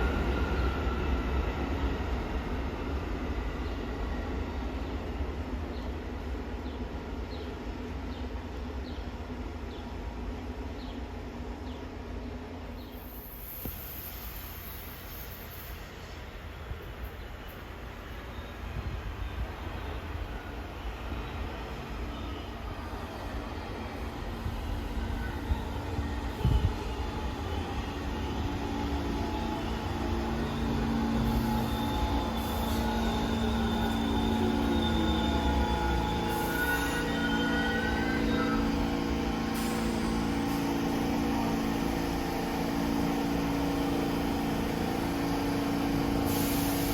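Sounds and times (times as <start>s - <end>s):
subway train rumble: 0.0s - 46.9s.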